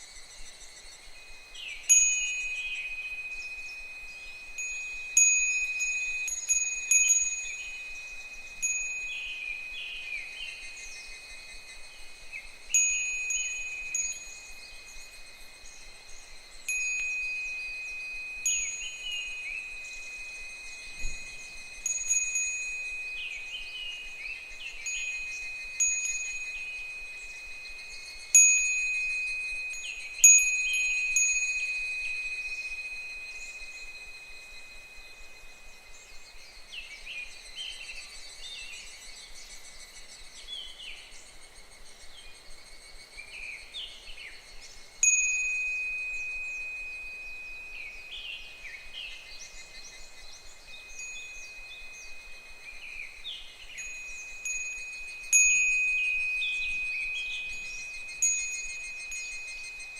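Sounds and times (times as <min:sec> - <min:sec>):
cicadas calling: 0:00.0 - 0:59.9
wind bell ringing: 0:01.1 - 0:39.0, 0:45.0 - 0:59.9.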